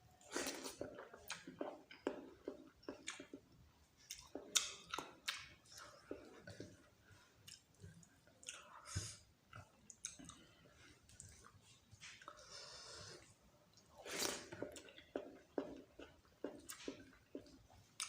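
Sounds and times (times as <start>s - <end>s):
person chewing food: 0.2s - 18.0s.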